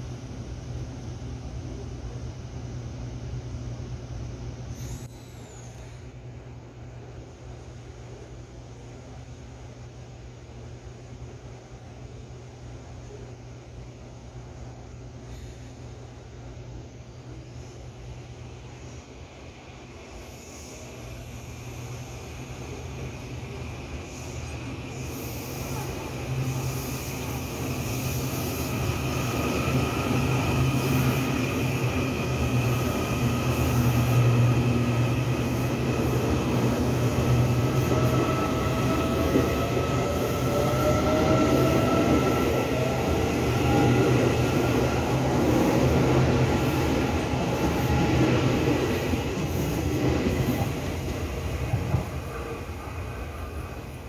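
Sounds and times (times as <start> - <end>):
electric train humming: 0.0 - 54.0.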